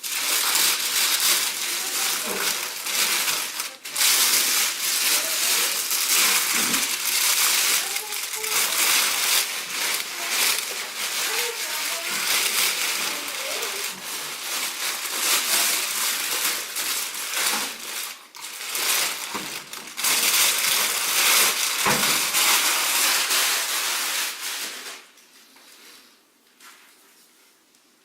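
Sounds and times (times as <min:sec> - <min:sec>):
packaging rustling and crinkling: 0:00.0 - 0:25.8.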